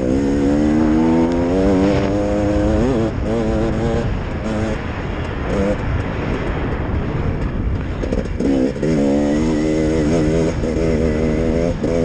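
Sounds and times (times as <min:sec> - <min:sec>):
dirt bike engine revving: 0:00.0 - 0:06.6, 0:07.9 - 0:12.0.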